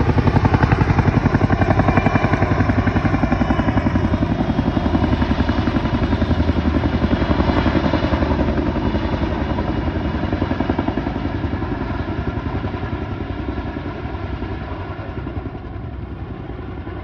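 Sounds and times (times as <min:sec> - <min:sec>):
helicopter rotor blades chopping: 0:00.0 - 0:17.0.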